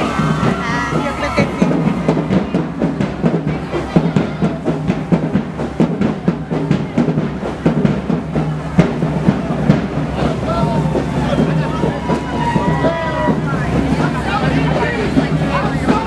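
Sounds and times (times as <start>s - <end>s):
drumline playing a cadence: 0.0s - 16.0s.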